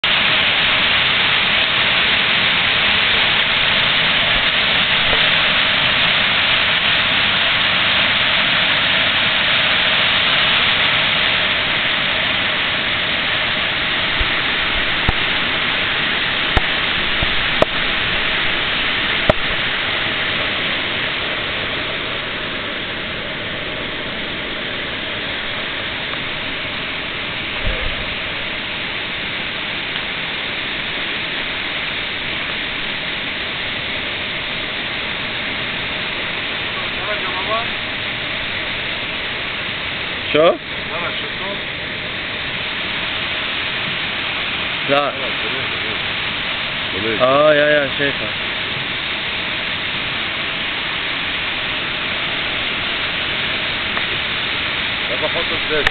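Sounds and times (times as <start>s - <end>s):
stream rushing over boulders: 0.0s - 55.9s.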